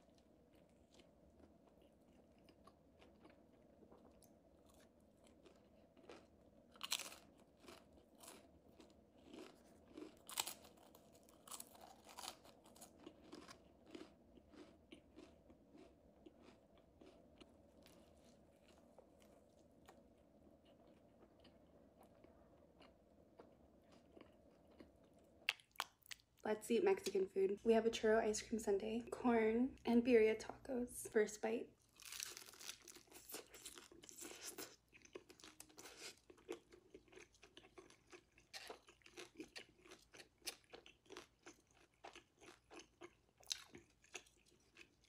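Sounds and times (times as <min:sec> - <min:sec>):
chewing crispy food: 0:00.0 - 0:26.5, 0:31.8 - 0:45.0.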